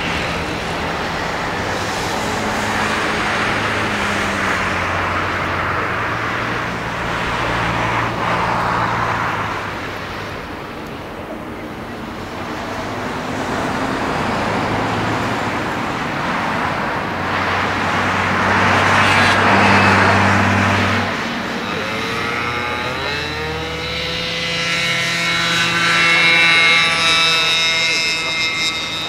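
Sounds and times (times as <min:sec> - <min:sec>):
high-pitched engine whine: 0:00.0 - 0:29.0
jet engines roaring: 0:00.0 - 0:29.0.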